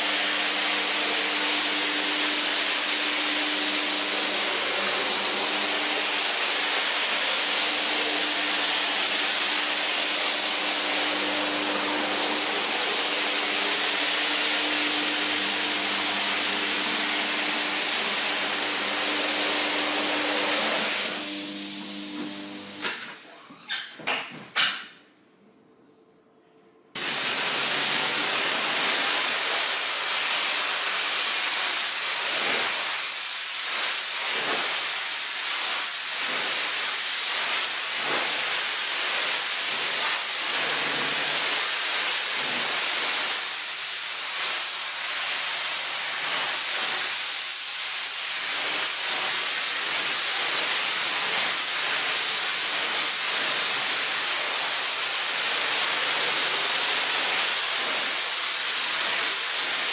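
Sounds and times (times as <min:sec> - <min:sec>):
water spray hissing: 0:00.0 - 0:23.2, 0:27.0 - 0:59.9.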